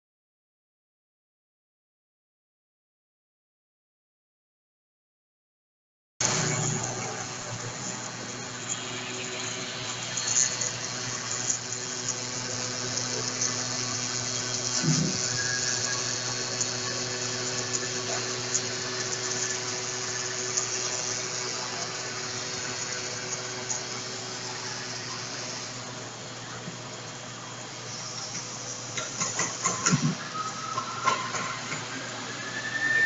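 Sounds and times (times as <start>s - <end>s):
cnc router cutting foam: 6.2s - 33.0s.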